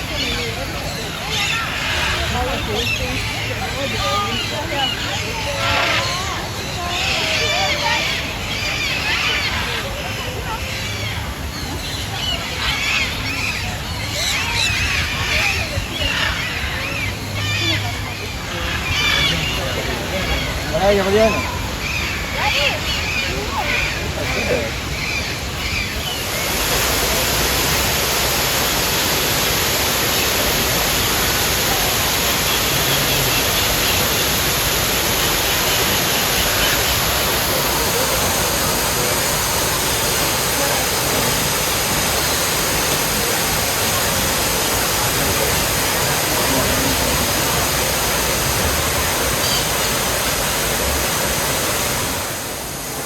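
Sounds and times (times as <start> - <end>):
loud rushing water: 0.0 - 53.0.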